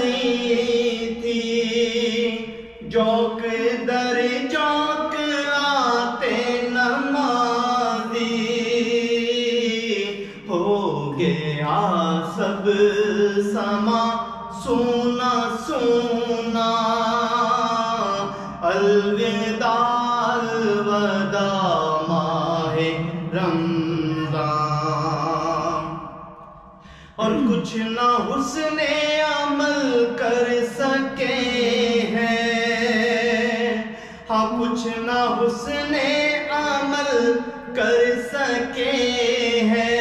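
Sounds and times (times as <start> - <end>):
man singing unaccompanied: 0.0 - 26.2, 27.2 - 40.0.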